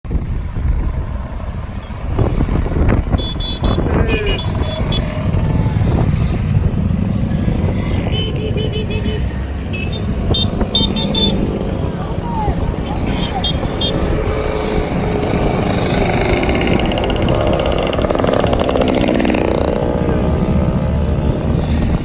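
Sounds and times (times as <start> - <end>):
motorcycle engines rumbling: 0.1 - 22.0.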